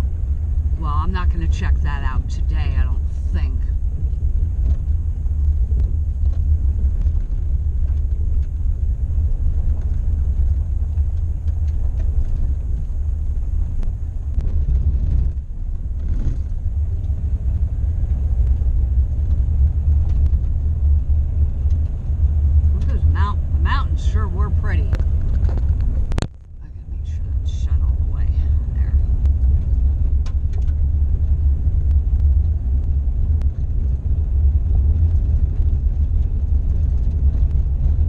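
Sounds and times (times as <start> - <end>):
van engine and tyres droning: 0.0 - 38.0.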